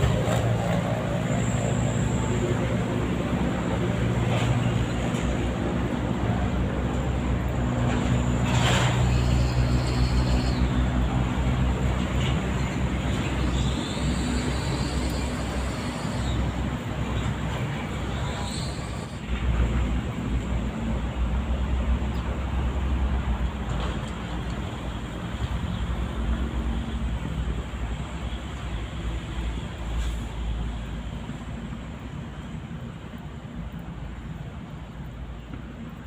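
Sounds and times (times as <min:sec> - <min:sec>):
road traffic engine hum: 0:00.0 - 0:36.0.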